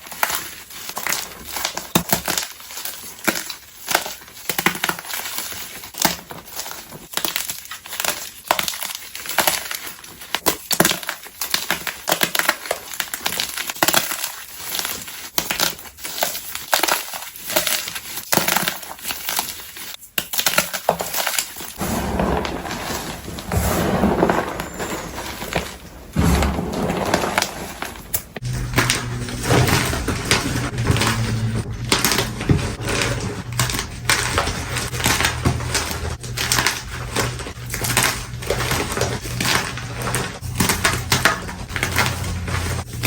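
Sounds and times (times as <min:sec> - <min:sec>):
chalk blocks being crushed: 0:00.0 - 0:43.0.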